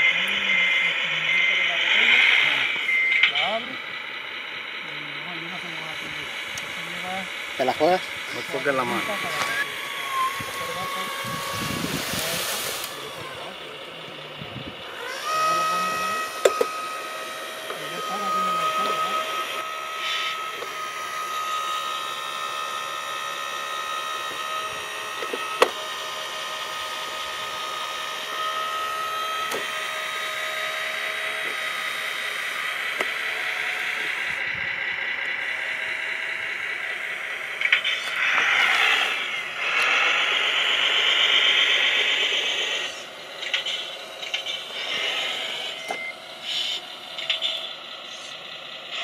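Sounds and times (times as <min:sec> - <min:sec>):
toy truck electric motors whining: 0:00.0 - 0:49.0.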